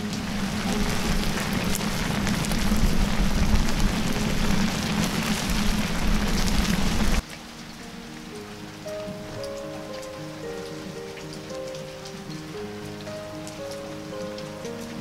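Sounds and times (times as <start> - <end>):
fire crackles: 0.0 - 15.0
sauce bubbling and sizzling: 0.0 - 15.0.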